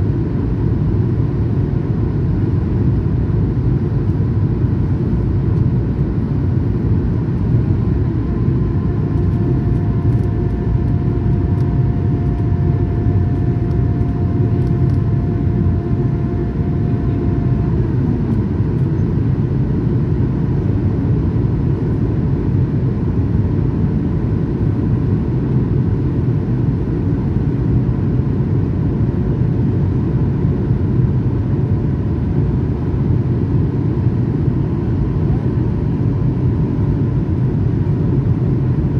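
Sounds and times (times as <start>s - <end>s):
faint steady whine: 0.0s - 38.9s
jet engine cabin noise: 0.0s - 38.9s.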